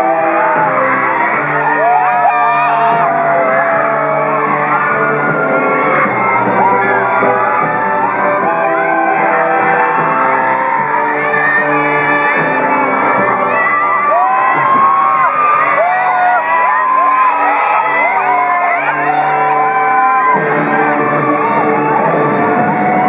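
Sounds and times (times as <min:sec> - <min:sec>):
audience cheering and screaming: 0:00.0 - 0:23.0
music in echoing hall: 0:00.0 - 0:23.0.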